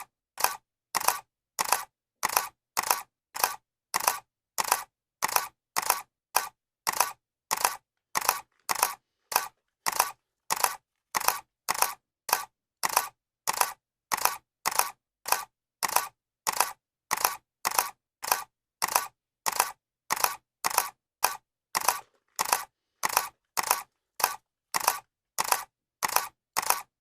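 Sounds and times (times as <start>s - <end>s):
camera shutter double clicks: 0.4s - 26.9s.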